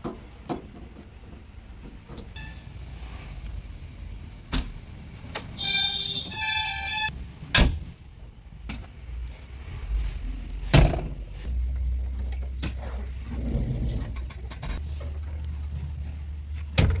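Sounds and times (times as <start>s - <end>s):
low steady rumble: 1.5s - 17.0s.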